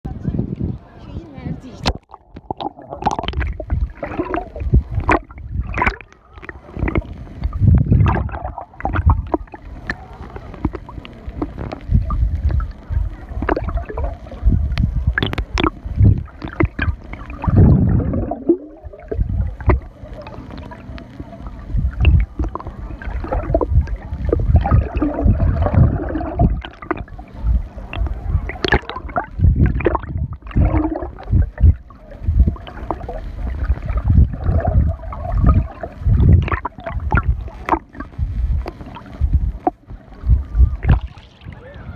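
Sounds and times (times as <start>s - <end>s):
seawater sloshing and splashing: 1.8s - 41.9s.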